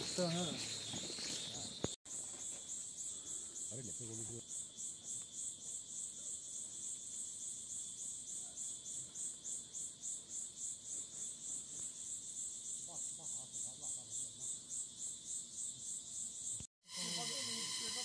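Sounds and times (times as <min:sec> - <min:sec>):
insects pulsing chorus: 0:00.0 - 0:18.0.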